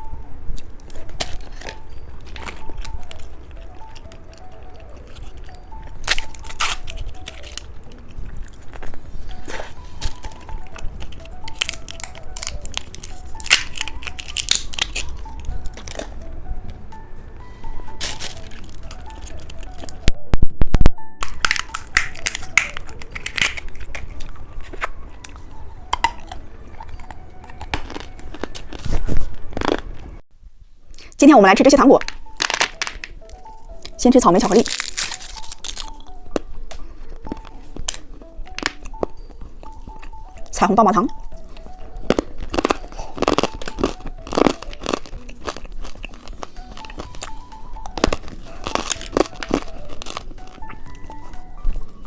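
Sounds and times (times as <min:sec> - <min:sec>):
person chewing candy: 0:00.0 - 0:16.8, 0:17.4 - 0:20.1, 0:21.2 - 0:30.2, 0:30.8 - 0:31.2, 0:31.8 - 0:52.0
soft background music: 0:00.0 - 0:52.0.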